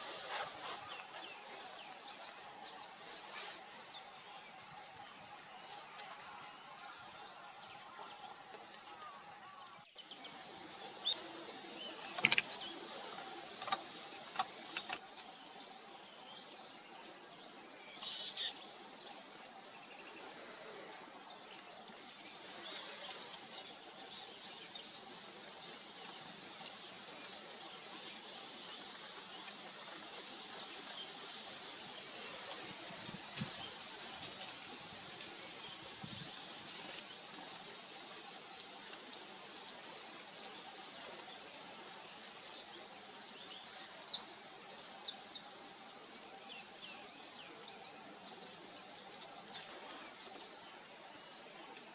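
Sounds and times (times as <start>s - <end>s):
outdoor background hiss: 0.0s - 51.9s.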